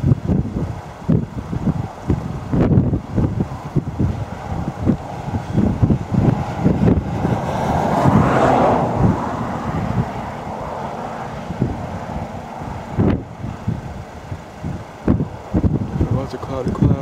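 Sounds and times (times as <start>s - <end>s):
wind buffeting microphone: 0.0s - 17.0s
vehicle passing: 1.7s - 16.0s.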